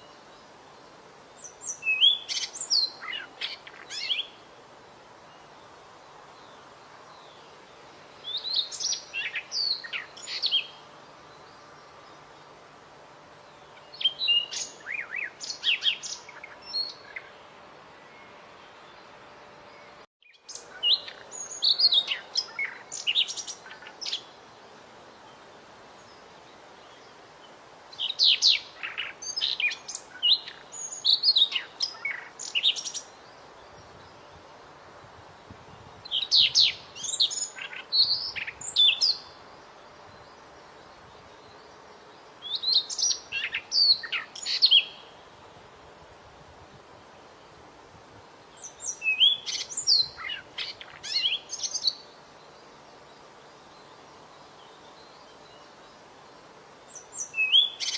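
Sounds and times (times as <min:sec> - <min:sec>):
songbird chirping and trilling: 0:00.0 - 0:45.4, 0:48.4 - 0:57.9
steady background hiss: 0:00.0 - 0:57.9.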